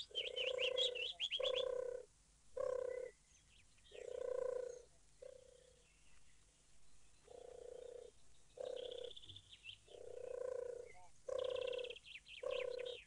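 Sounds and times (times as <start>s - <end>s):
dove cooing: 0.0s - 3.2s, 3.9s - 5.8s, 7.2s - 13.0s
small birds trilling: 0.0s - 13.0s.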